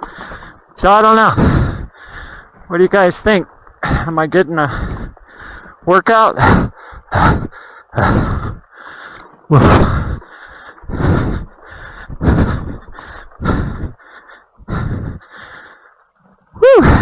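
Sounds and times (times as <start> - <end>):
man breathing hard: 0.0 - 2.7, 3.8 - 5.8, 6.4 - 17.0.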